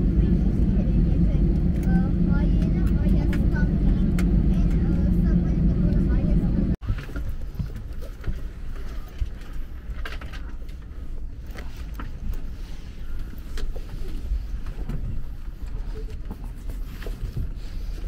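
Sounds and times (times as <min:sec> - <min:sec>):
aircraft cabin hum: 0:00.0 - 0:18.0.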